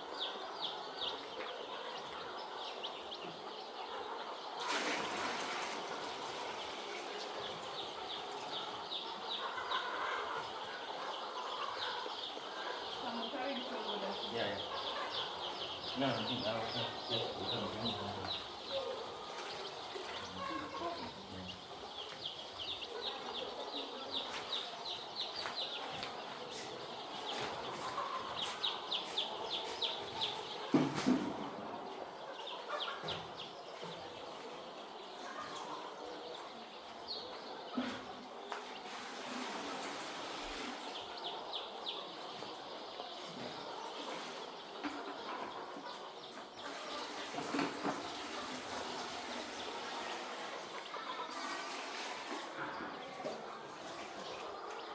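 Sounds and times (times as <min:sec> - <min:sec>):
chickens peeping: 0:00.0 - 0:54.9.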